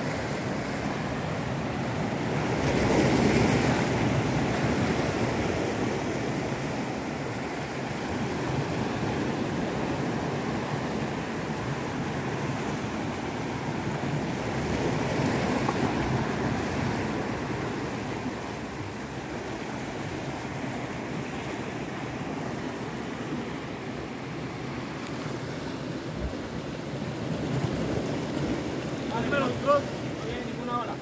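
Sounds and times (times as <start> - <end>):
sea surf washing around rocks: 0.0 - 31.0.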